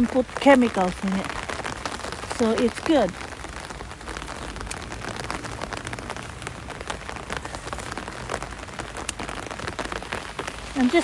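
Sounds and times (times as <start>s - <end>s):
rain falling: 0.0s - 11.0s
raindrop taps: 0.0s - 11.0s.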